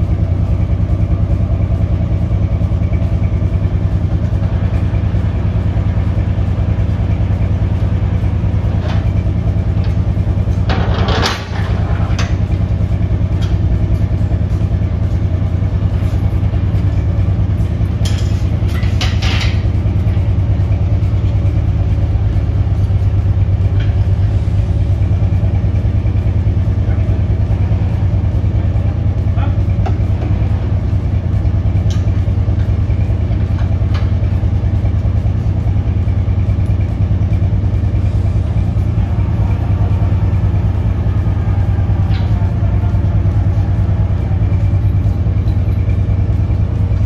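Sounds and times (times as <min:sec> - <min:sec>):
truck engine idling: 0:00.0 - 0:47.0.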